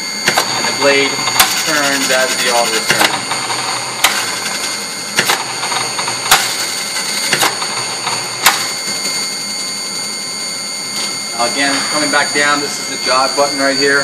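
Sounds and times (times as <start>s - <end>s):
powder filler motor whine: 0.0s - 14.0s.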